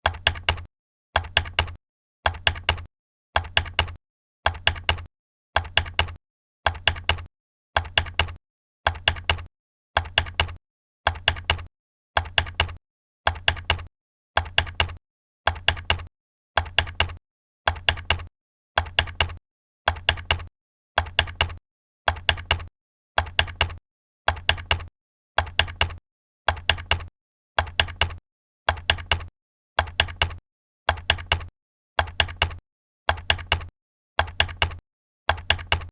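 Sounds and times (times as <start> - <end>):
computer keyboard typing: 0.0 - 35.9.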